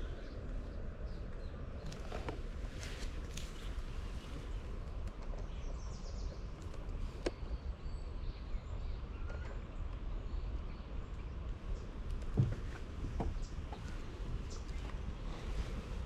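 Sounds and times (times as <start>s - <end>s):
songbird chirps and calls: 0.0s - 16.0s
steady low rumble: 0.0s - 16.0s.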